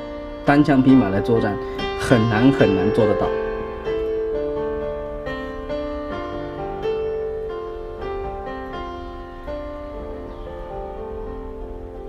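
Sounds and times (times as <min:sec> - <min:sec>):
piano notes and chords: 0:00.0 - 0:12.0.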